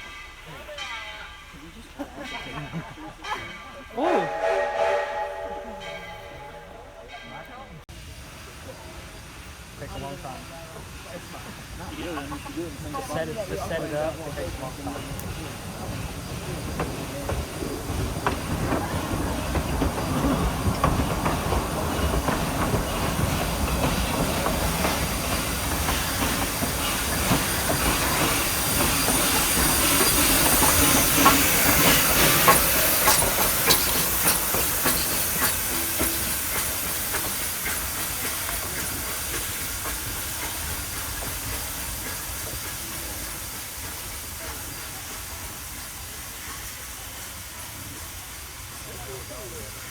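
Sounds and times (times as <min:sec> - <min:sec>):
steam hissing: 0:04.0 - 0:49.9
train wheels clicking over rail joints: 0:09.9 - 0:49.9.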